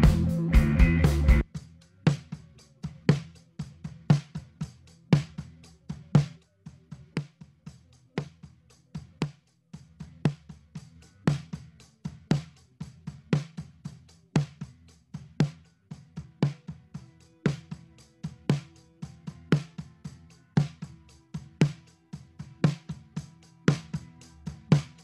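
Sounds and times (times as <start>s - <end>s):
drum kit bleed: 0.0s - 25.0s.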